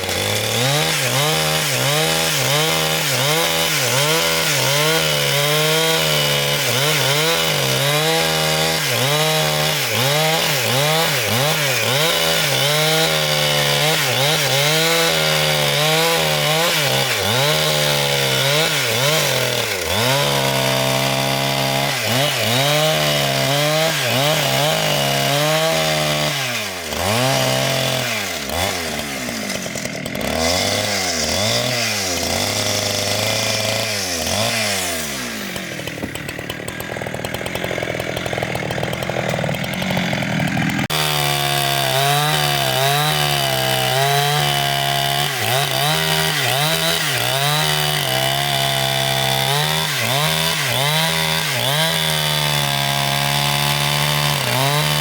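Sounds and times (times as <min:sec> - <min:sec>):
petrol saw cutting timber: 0:00.0 - 0:55.0.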